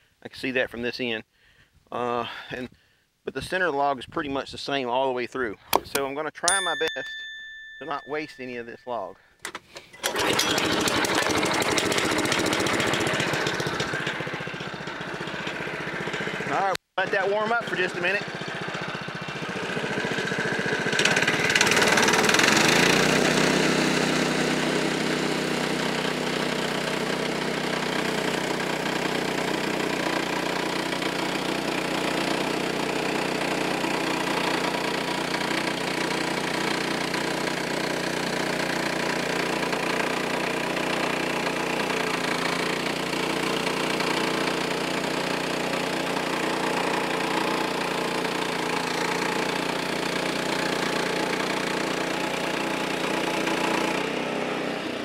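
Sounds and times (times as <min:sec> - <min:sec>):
sawmill engine idling: 0:10.0 - 0:16.8, 0:17.4 - 0:55.0.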